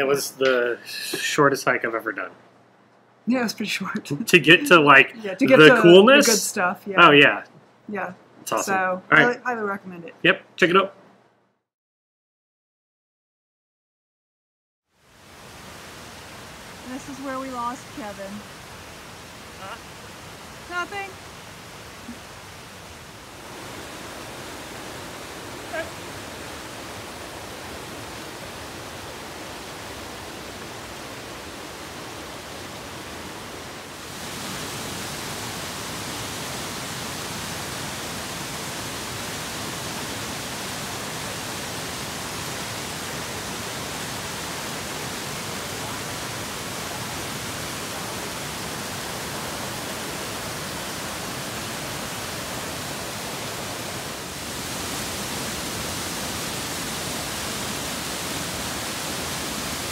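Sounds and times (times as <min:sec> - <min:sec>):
waterfall and creek rushing: 0:00.0 - 0:01.5, 0:03.6 - 0:07.4, 0:15.0 - 0:59.9.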